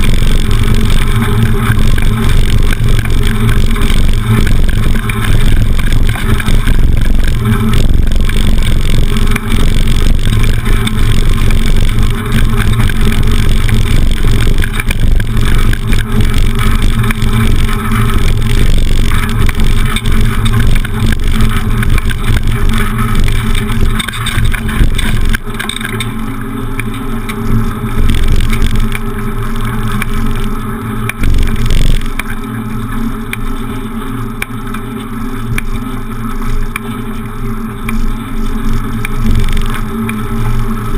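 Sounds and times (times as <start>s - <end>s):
bicycle rattling over cobblestones: 0.0s - 40.9s
bicycle rolling on smooth asphalt: 0.0s - 40.9s.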